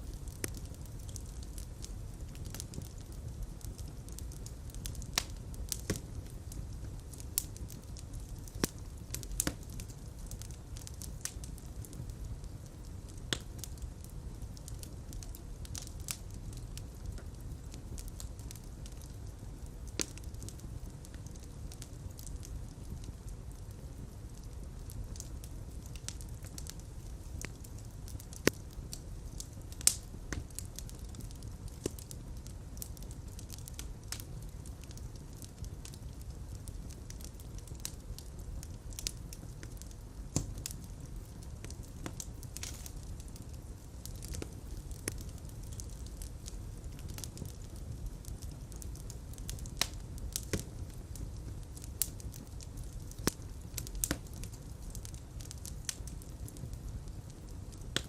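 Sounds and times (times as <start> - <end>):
fire pops and snaps: 0.0 - 58.0
flames rumbling: 0.0 - 58.0.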